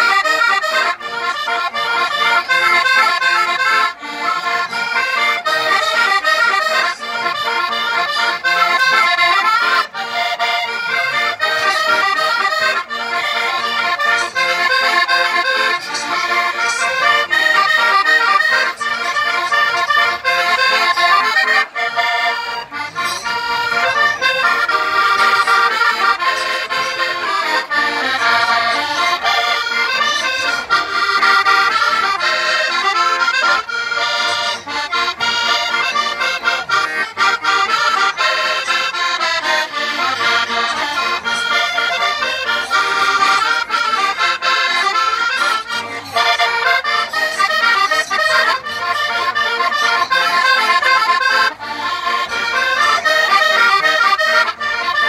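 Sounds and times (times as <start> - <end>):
button accordion folk tune: 0.0 - 55.0.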